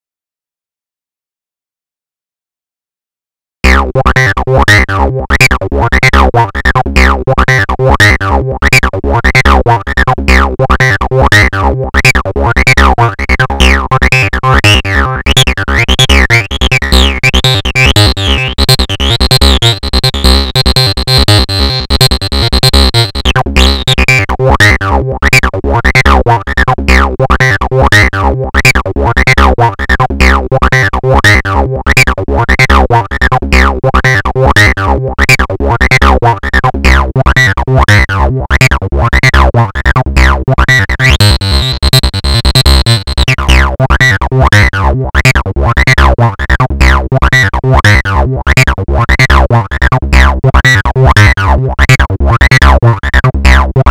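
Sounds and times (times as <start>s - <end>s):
synthesized acid bassline: 3.6s - 53.9s.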